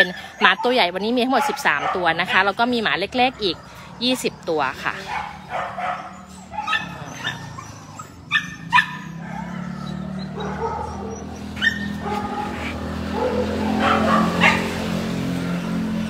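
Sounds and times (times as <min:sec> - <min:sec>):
dogs barking and yipping: 0:00.0 - 0:16.0.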